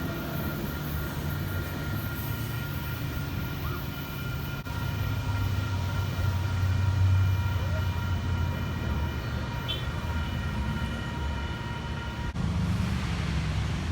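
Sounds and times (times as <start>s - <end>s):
diesel locomotive rumble: 0.0s - 13.9s.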